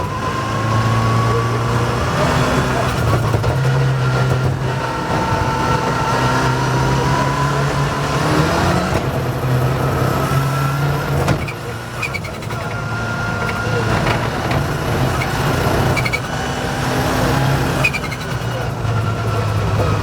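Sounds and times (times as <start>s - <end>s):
rally car engine under load: 0.0s - 20.0s.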